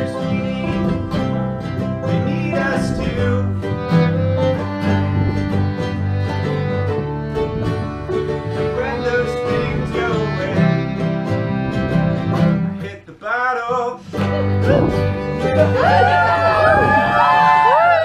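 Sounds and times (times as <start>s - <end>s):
banjo picking: 0.0s - 17.9s
bluegrass band playing: 0.0s - 18.0s.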